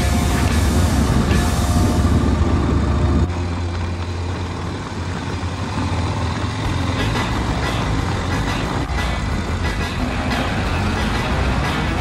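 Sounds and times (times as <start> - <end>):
motorcycle engine running: 0.0 - 12.0
traffic noise: 0.0 - 12.0.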